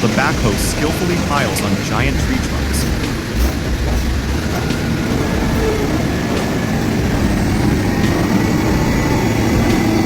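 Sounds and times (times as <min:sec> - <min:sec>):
heavy vehicle engine under load: 0:00.0 - 0:10.0.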